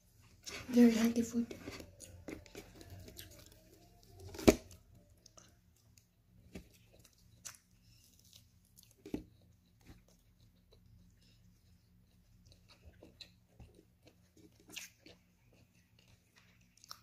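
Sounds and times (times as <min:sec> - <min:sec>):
chewing food: 0:01.5 - 0:17.0.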